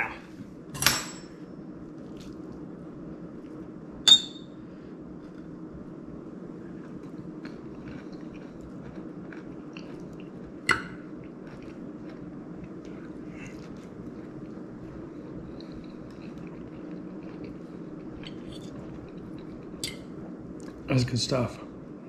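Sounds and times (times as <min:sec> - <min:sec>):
low hum: 0:00.0 - 0:22.0
man chewing food: 0:01.8 - 0:03.8, 0:05.0 - 0:20.9.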